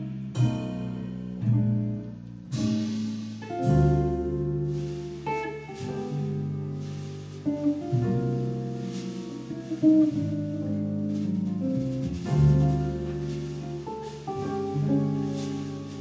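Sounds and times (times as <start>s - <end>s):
walking double bass line: 0.0s - 16.0s
light cymbal strokes: 2.5s - 16.0s.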